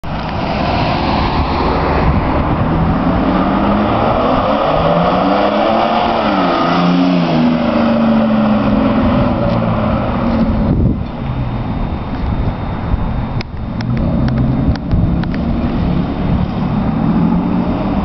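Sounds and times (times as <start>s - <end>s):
loud diesel car engine pulling away: 0.1s - 12.1s, 13.7s - 18.0s.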